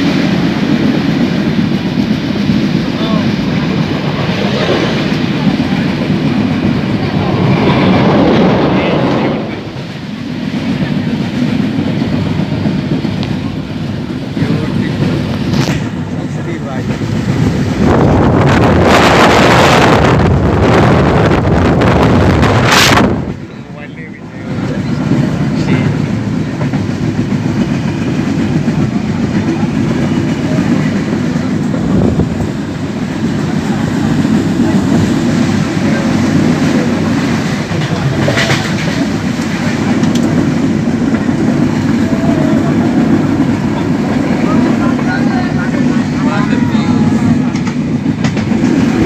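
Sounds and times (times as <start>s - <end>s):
moving passenger train rumble: 0.0s - 49.0s
wind buffeting microphone: 0.0s - 49.0s.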